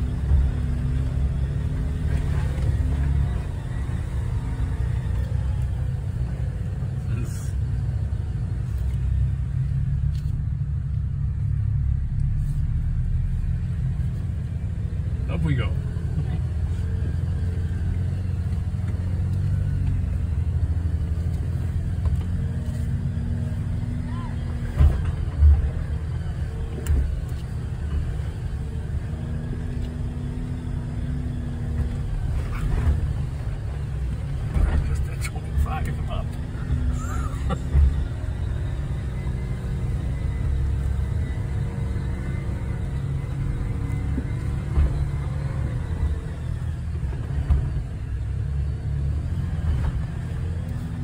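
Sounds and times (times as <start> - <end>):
car engine rumbling: 0.0 - 51.0.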